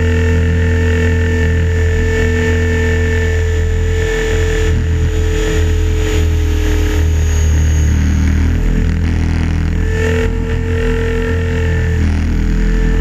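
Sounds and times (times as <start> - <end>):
helicopter motor and rotor whine: 0.0 - 13.0
low rumble of rotor wash: 0.0 - 13.0.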